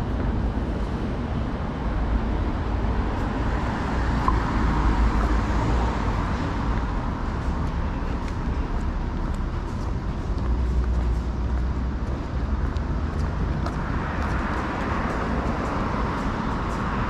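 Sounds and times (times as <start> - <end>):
cars passing: 0.0 - 17.0.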